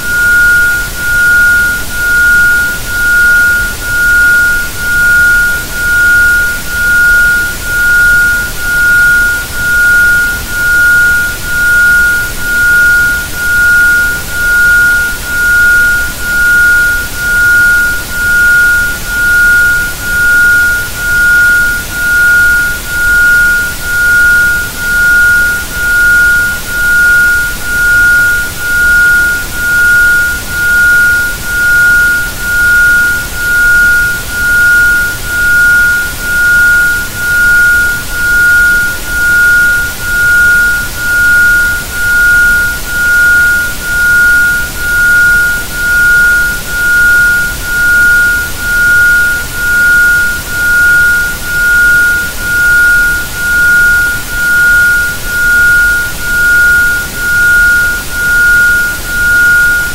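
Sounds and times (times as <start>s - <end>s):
pulsing sine tone: 0.0s - 59.9s.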